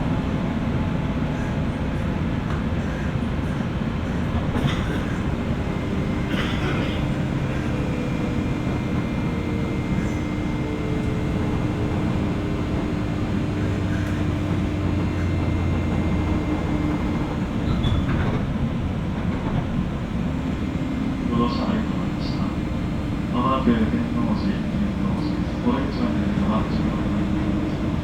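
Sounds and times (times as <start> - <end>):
train wheel and rail noise: 0.0 - 28.0
traction equipment hum: 2.5 - 28.0
low hum: 4.4 - 28.0.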